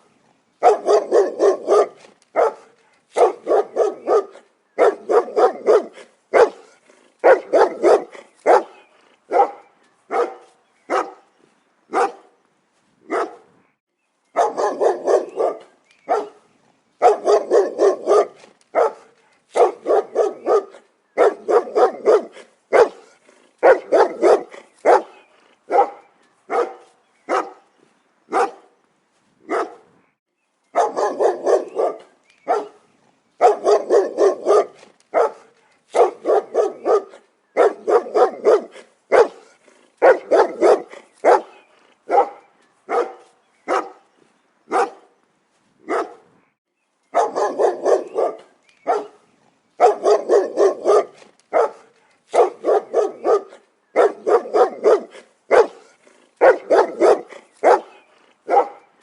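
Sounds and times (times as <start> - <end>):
dog barking: 0.6 - 11.2, 11.9 - 12.4, 13.1 - 13.5, 14.4 - 16.4, 17.0 - 27.6, 28.3 - 28.7, 29.5 - 29.9, 30.8 - 32.8, 33.4 - 44.0, 44.7 - 45.1, 45.8 - 46.3, 47.1 - 49.2, 49.8 - 58.9.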